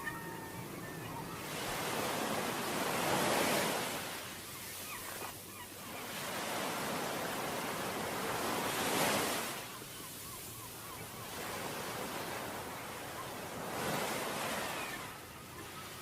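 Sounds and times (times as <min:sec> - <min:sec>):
waves washing on shore: 0:00.0 - 0:05.3, 0:06.0 - 0:15.0
wind: 0:00.0 - 0:16.0.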